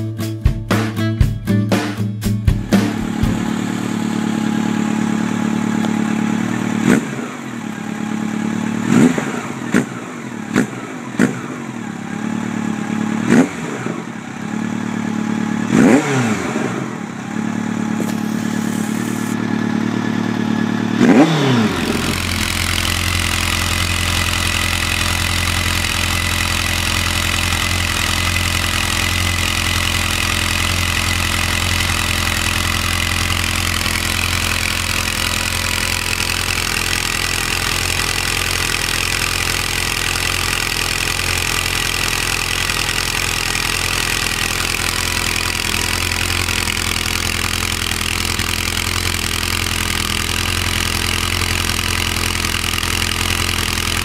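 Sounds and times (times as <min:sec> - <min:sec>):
motorcycle engine idling: 0:02.5 - 0:54.0
motorcycle engine revving: 0:02.5 - 0:54.0.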